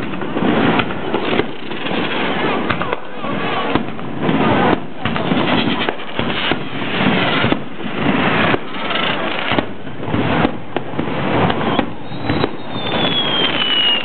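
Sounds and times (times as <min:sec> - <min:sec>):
firework crackling: 0:00.0 - 0:14.0
firework shells bursting: 0:00.0 - 0:14.0
sharp firework report: 0:00.0 - 0:14.0.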